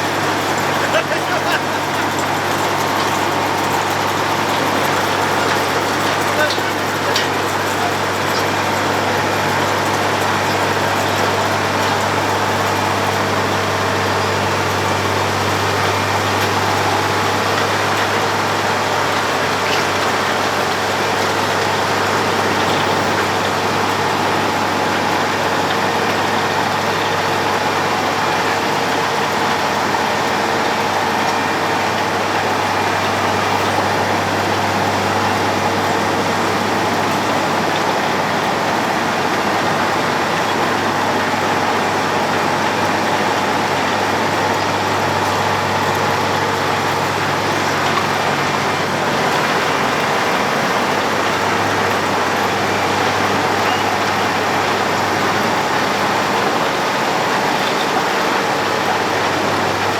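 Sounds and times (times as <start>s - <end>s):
milling machine engine drone: 0.0s - 59.9s.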